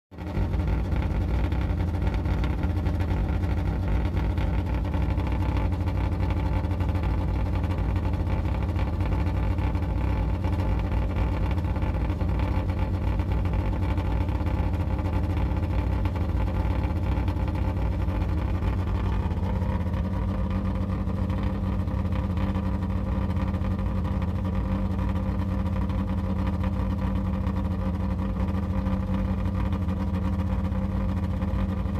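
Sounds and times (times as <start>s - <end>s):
car engine idling with exhaust leak: 0.1s - 31.9s.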